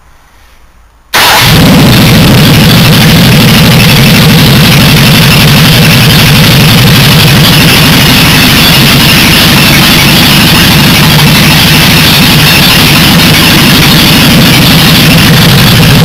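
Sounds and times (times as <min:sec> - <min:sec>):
car engine idling loud: 0:01.2 - 0:16.0.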